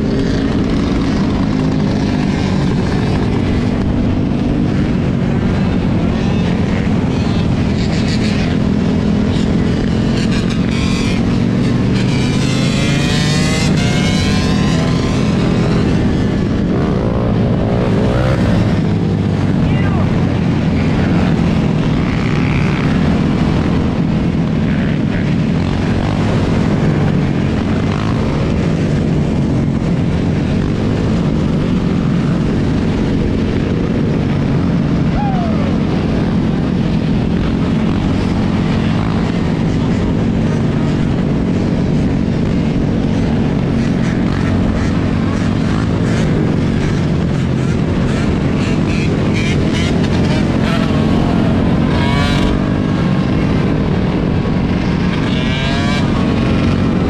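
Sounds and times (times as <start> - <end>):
many motorbike engines droning: 0.0 - 57.0.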